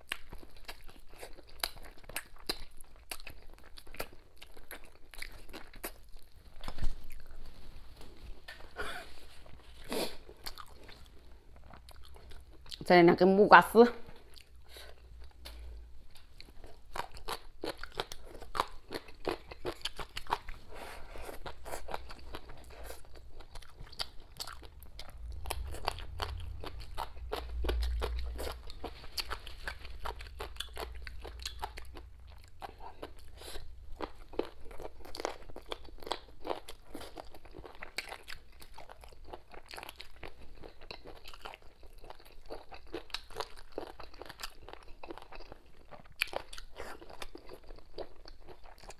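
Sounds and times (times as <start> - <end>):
person chewing crunchy food: 0.0 - 12.9, 14.1 - 48.9.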